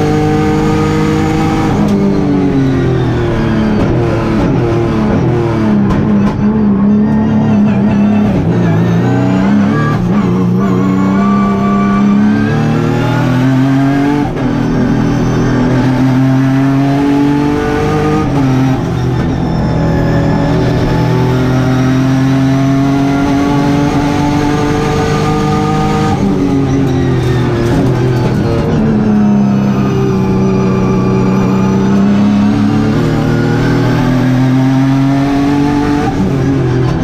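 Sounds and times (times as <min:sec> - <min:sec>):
race car engine accelerating: 0:00.0 - 0:37.0.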